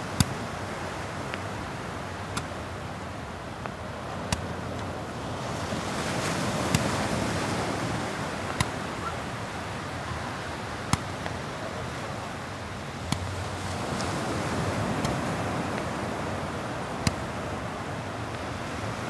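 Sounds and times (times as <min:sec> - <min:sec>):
waves washing up a beach: 0:00.0 - 0:19.0.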